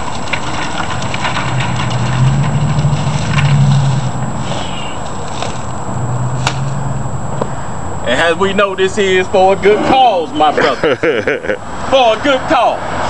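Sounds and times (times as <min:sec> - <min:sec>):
low vehicle engine hum: 0:00.0 - 0:13.0.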